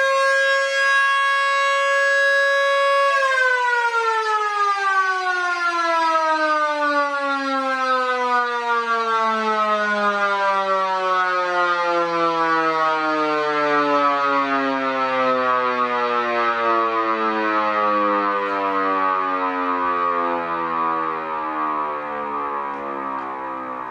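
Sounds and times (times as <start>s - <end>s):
sirens winding down: 0.0s - 23.9s.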